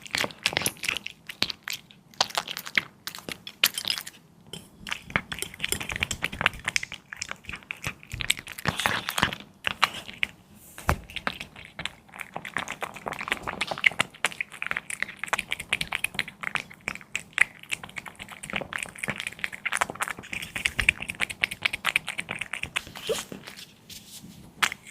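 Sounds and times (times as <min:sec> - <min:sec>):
cat chewing and crunching meat: 0:00.0 - 0:24.9.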